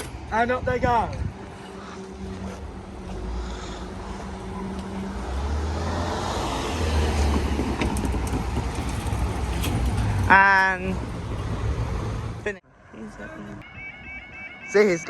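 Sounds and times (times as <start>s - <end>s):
cars driving past: 1.0s - 14.4s.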